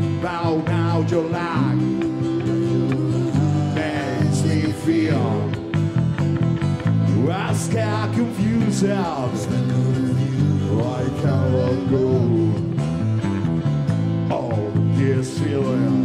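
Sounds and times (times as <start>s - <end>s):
man singing: 0.0s - 5.8s, 7.1s - 13.0s, 14.2s - 16.0s
acoustic guitar: 0.0s - 16.0s
electric bass: 0.0s - 16.0s.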